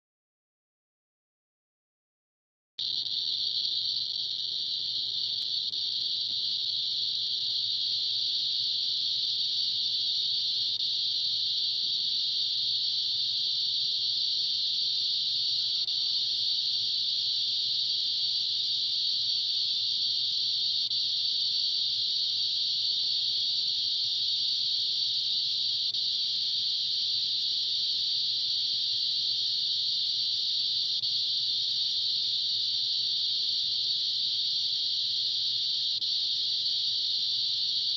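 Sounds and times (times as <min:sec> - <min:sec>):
high-pitched hiss: 0:02.8 - 0:37.9.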